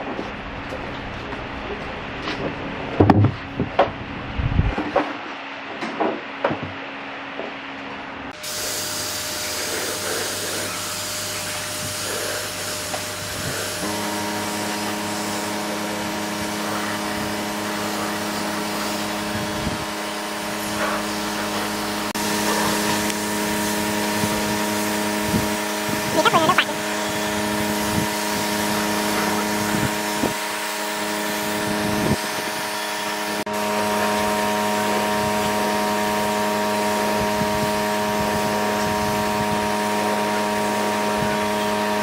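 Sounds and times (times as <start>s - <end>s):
motor hum: 0.0s - 42.0s
workshop machine hissing: 8.4s - 42.0s.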